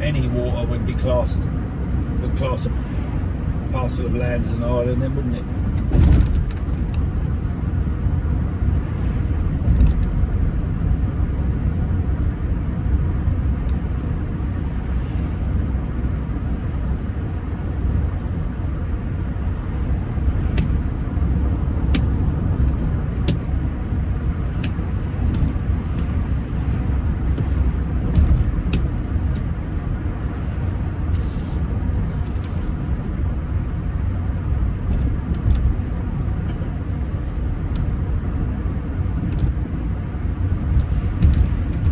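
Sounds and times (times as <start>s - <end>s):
road and engine rumble: 0.0s - 41.9s.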